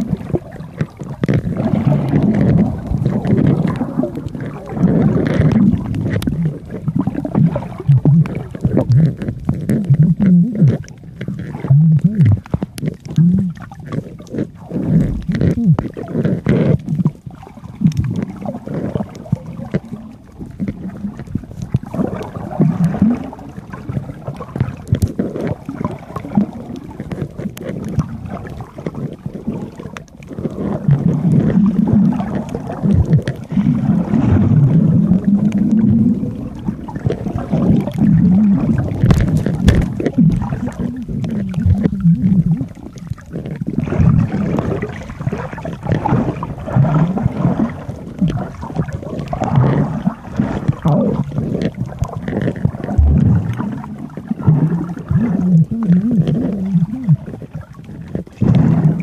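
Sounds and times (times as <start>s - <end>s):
bubbles: 0.0s - 59.0s
underwater rumble of moving water: 0.0s - 59.0s.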